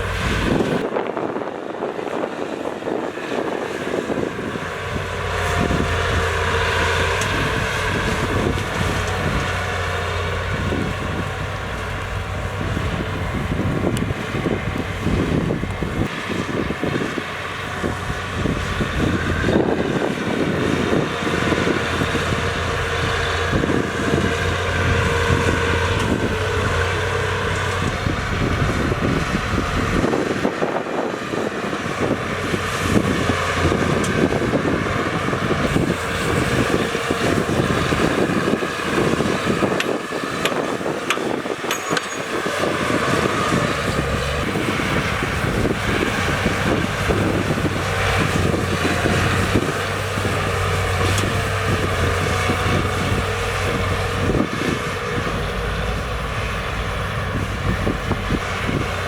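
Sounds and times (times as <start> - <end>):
diesel engine drone: 0.0 - 59.0
machinery rumble and clatter: 0.0 - 59.0.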